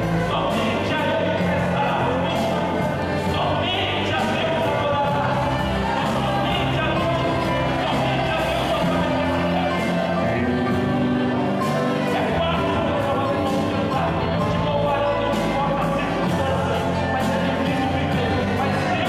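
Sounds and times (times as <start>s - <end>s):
instrumental accompaniment: 0.0s - 19.0s
man singing into microphone: 0.0s - 19.0s.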